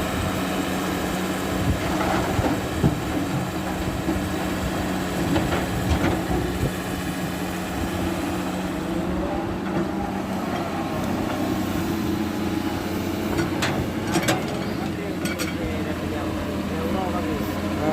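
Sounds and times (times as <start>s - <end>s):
diesel machinery engine running: 0.0s - 17.9s.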